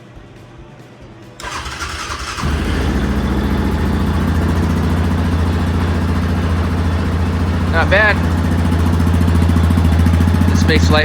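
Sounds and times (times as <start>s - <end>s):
engine cranking: 1.4s - 11.0s
engine running steadily: 1.4s - 11.0s.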